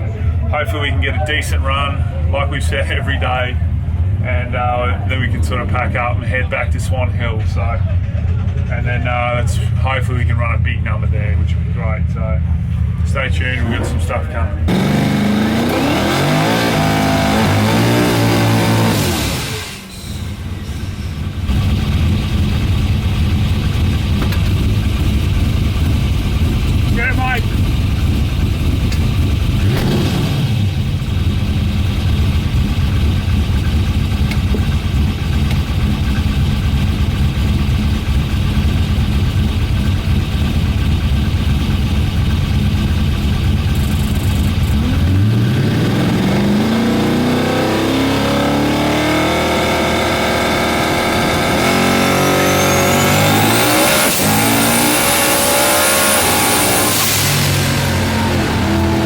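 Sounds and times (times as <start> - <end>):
car engine rumbling and revving: 0.0 - 59.0.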